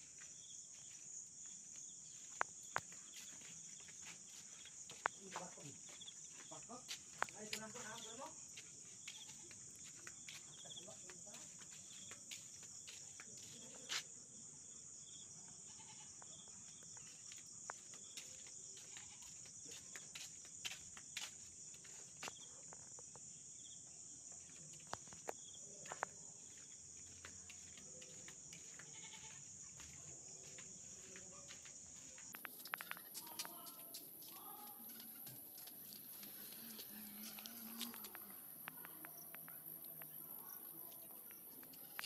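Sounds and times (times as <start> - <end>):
night insects chirring: 0.0 - 42.0.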